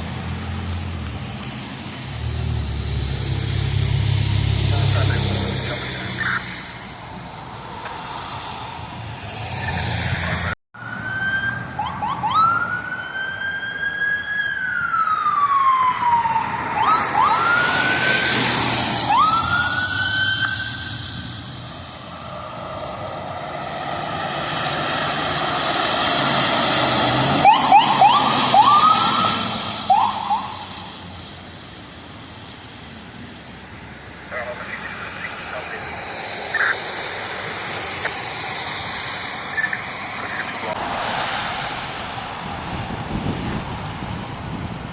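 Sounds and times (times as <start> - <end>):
emergency vehicle siren: 0.0 - 8.9, 9.8 - 31.8, 34.0 - 44.9.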